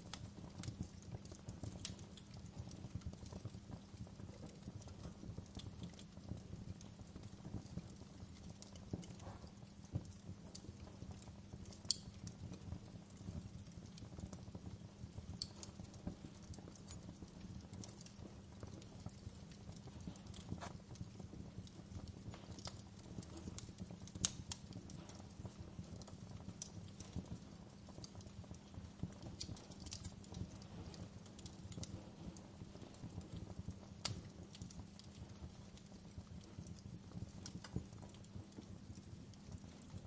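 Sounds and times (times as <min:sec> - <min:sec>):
fire crackling and popping: 0:00.0 - 0:40.0
fire low rumble: 0:00.0 - 0:40.0
fire sharp snaps: 0:00.0 - 0:40.0.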